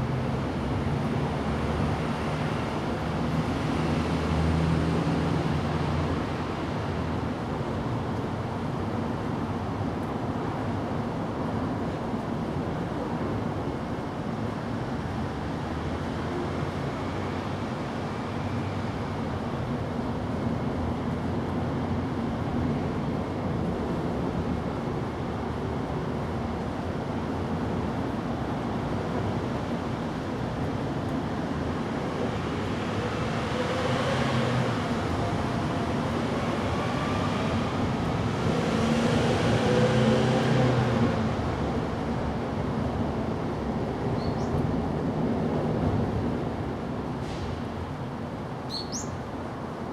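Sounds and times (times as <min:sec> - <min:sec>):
distant road traffic rumble: 0:00.0 - 0:49.9.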